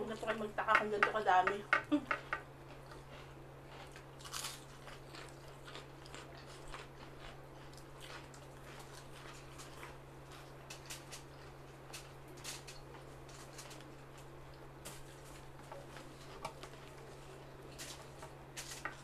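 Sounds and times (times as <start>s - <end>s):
people chewing food: 0.0s - 19.0s
steady low hum: 0.0s - 19.0s.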